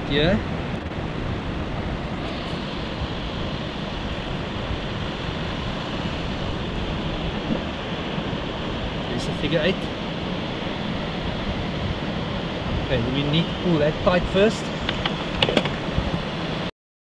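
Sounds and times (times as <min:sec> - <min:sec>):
surf breaking on a beach: 0:00.0 - 0:16.7
wind: 0:00.0 - 0:16.7.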